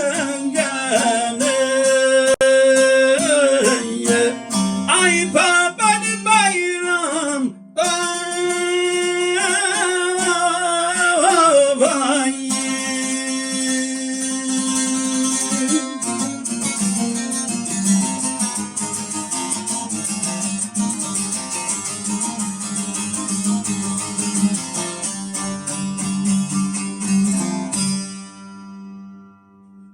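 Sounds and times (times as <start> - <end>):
plucked string instrument: 0.0 - 29.9.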